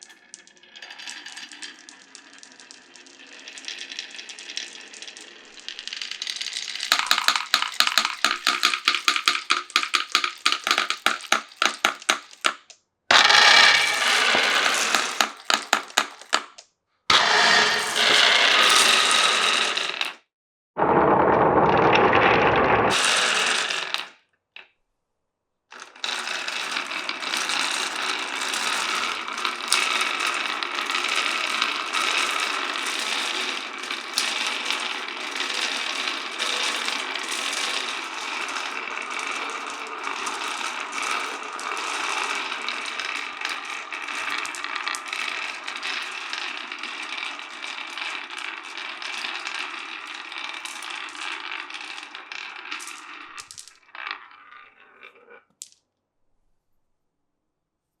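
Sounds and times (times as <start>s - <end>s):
marbles rolling through wooden run: 0.0s - 20.2s, 20.8s - 24.2s, 25.7s - 55.8s.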